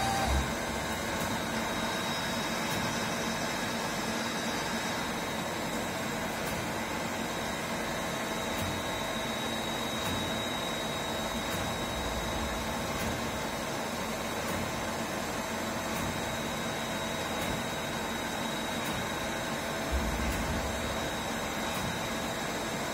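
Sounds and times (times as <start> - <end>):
milling machine humming and whining: 0.0 - 22.9.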